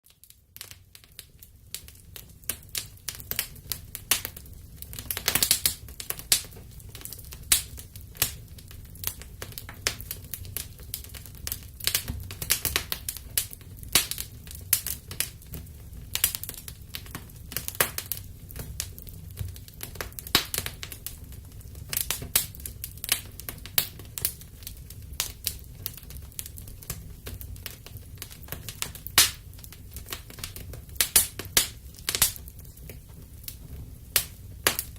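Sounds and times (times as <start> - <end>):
burning wood crackling and popping: 0.0 - 34.9
low rumble of flames: 0.1 - 34.9.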